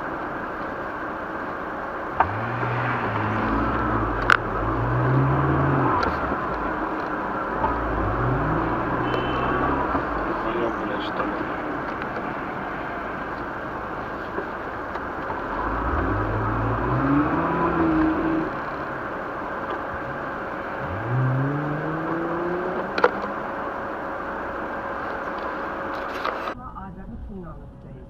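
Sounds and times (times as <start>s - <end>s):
car engine accelerating: 0.0s - 26.6s
road noise rushing: 0.0s - 27.5s.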